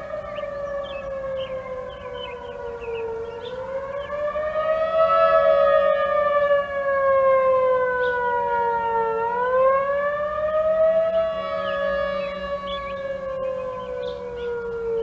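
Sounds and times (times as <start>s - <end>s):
steady siren tones: 0.0s - 15.0s
tornado siren wailing: 0.0s - 15.0s.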